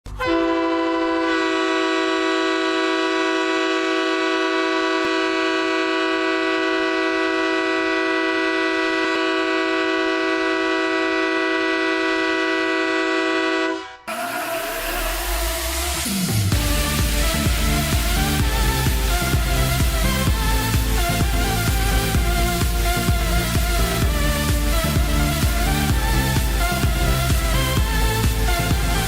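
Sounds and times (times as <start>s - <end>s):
goal horn blast: 0.1s - 29.0s.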